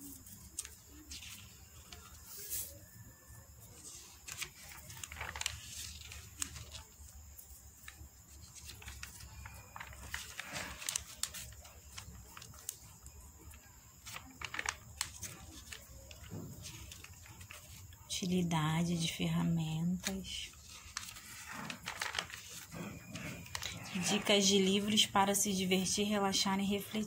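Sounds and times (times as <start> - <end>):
paper pages rustling and turning: 0.0 - 27.0.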